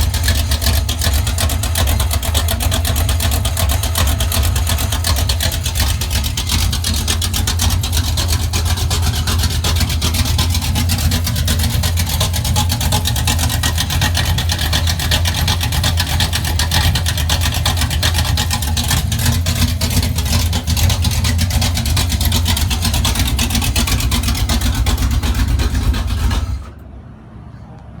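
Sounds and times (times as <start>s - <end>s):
engine exhaust rumble idling: 0.0s - 26.9s.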